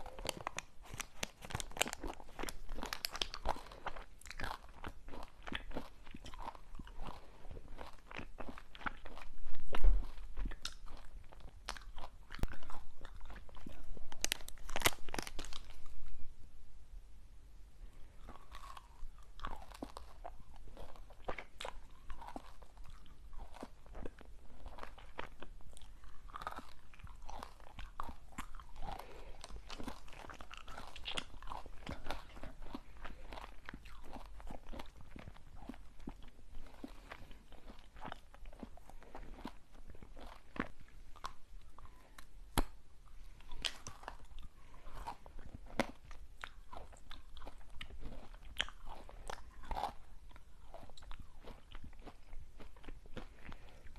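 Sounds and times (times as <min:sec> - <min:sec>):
crunchy sweets bitten: 0:00.0 - 0:16.1, 0:18.0 - 0:53.9
chewing with small crackles: 0:00.0 - 0:16.3, 0:17.9 - 0:53.9.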